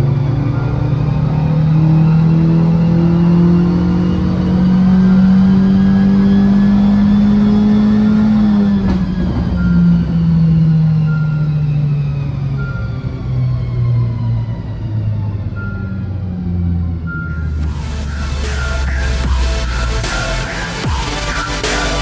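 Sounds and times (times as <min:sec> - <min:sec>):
car engine revving under load: 0:00.0 - 0:22.0.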